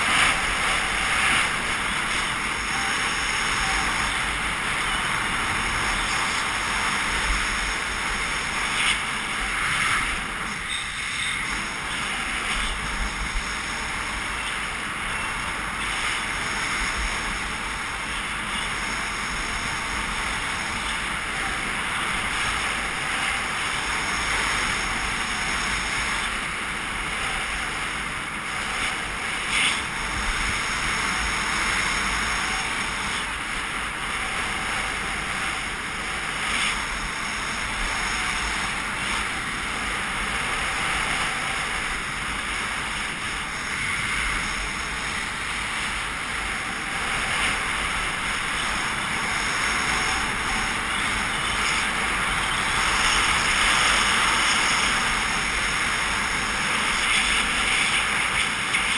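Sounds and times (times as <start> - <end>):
skis hissing over snow: 0.0 - 58.9.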